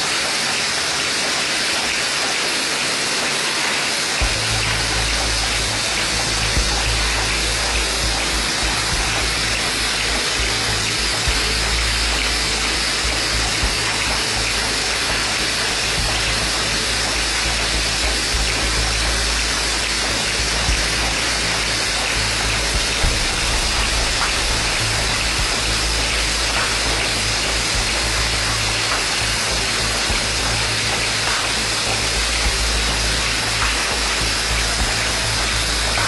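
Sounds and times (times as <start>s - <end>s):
machine hissing: 0.0s - 36.0s
low hum: 4.1s - 36.0s.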